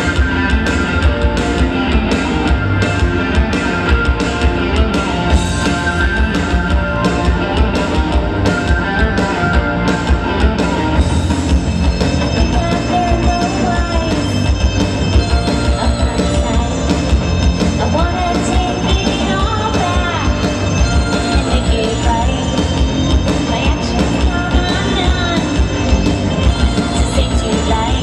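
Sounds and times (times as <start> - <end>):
bass guitar: 0.0 - 28.0
electric guitar: 0.0 - 28.0
steady drum beat: 0.0 - 28.0.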